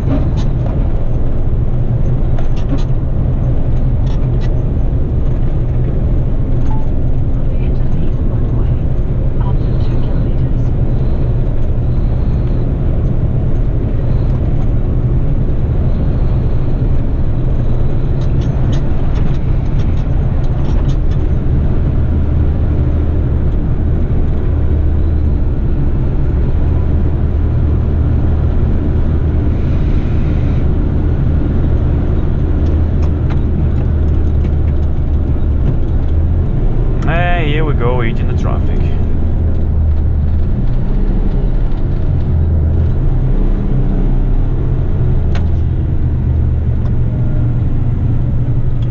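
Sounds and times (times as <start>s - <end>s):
road noise: 0.0s - 48.9s
truck diesel engine drone: 0.0s - 48.9s.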